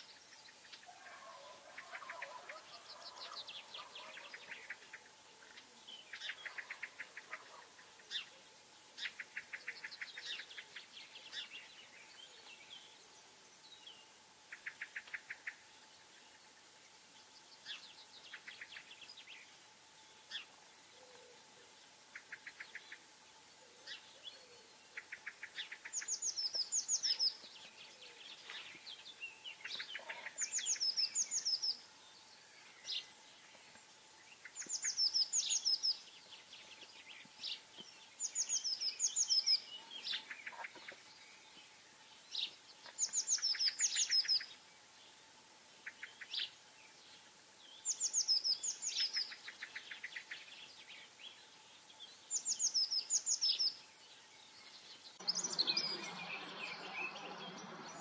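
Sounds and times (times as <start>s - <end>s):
songbird singing with trill: 0.0s - 16.6s, 17.2s - 45.2s, 45.8s - 58.0s.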